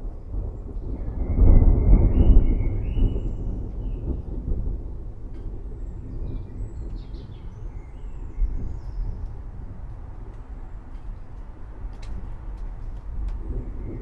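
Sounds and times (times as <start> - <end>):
rolling thunder: 0.0 - 10.3, 11.8 - 14.0.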